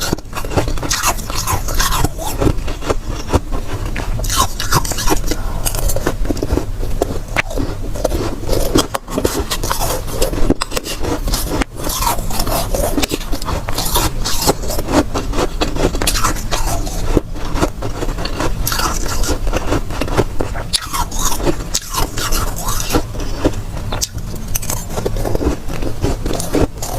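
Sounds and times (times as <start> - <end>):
freezer frost scraping and crunching: 0.0 - 26.9.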